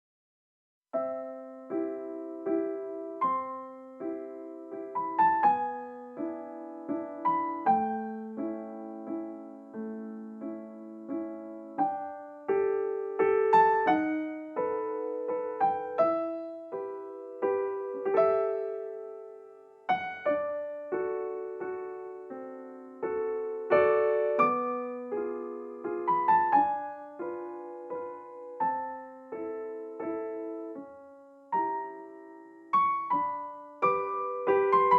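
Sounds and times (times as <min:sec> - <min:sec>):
gentle solo piano music: 0:01.0 - 0:34.9.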